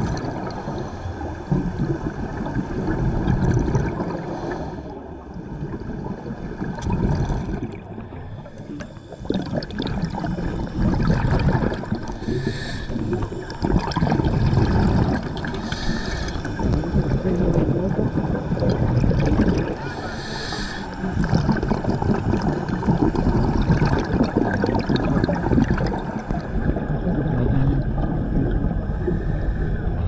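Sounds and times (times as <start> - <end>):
muffled underwater rumble: 0.0 - 30.0.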